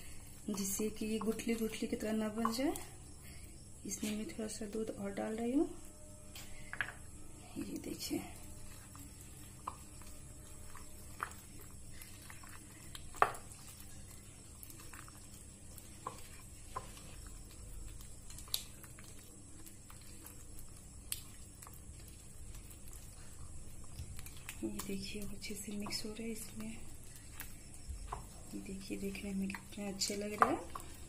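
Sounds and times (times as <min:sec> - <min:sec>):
spoon stirring thick batter: 0:00.0 - 0:05.0, 0:06.3 - 0:31.0.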